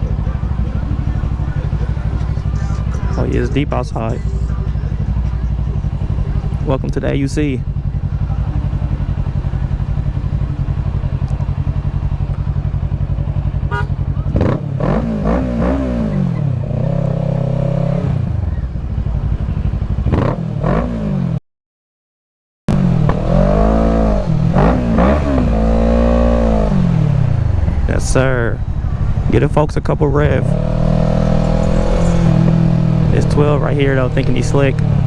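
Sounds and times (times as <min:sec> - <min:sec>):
motorcycle engine idling and revving: 0:00.0 - 0:21.4, 0:22.7 - 0:35.0.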